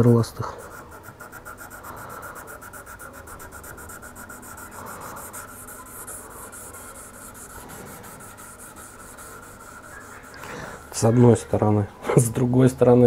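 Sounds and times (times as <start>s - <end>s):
sandpaper scraping steel blade: 0.6s - 11.2s.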